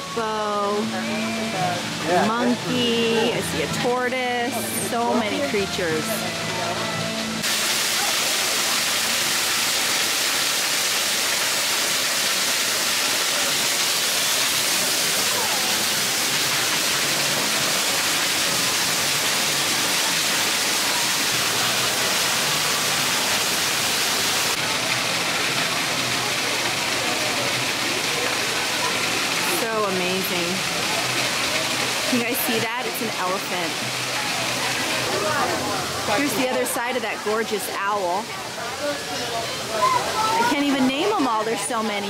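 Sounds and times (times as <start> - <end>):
falling water rushing: 0.0 - 42.0.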